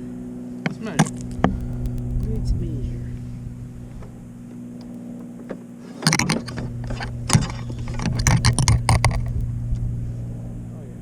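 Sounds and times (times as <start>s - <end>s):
steady low hum: 0.0s - 11.0s
sharp knocks and rattling clatter: 0.6s - 9.9s.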